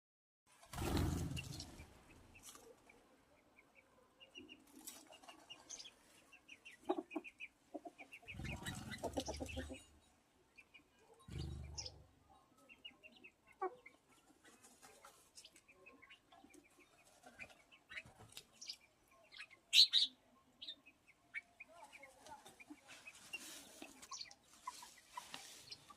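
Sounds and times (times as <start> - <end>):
birds chirping: 0.9 - 25.9.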